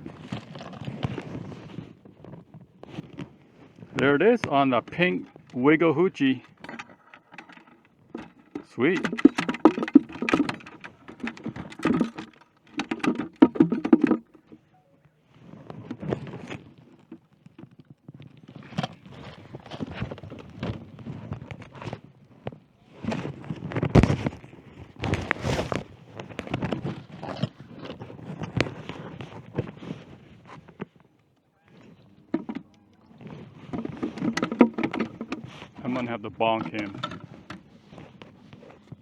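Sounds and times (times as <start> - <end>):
knocks and rattles of fishing gear: 0.0 - 14.8, 15.4 - 39.0.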